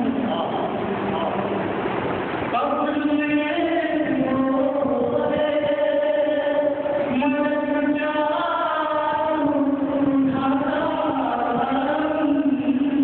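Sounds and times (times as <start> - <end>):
man chanting: 0.0 - 1.5, 2.5 - 13.0.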